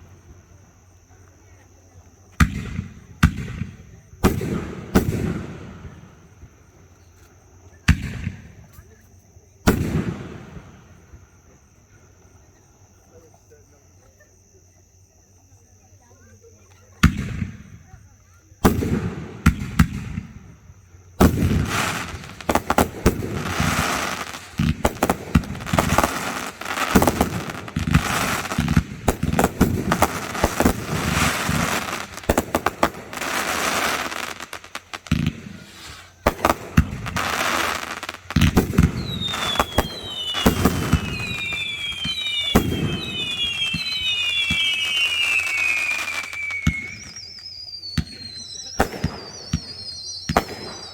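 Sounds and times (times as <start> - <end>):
fireworks falling whistles: 0.0 - 14.2, 16.0 - 50.9
fireworks bangs and bursts: 2.3 - 6.6, 7.8 - 8.9, 9.6 - 11.2, 17.0 - 50.9.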